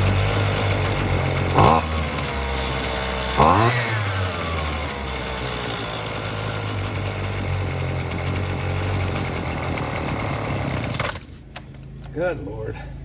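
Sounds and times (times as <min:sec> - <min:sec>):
string trimmer engine revving: 0:00.0 - 0:11.4.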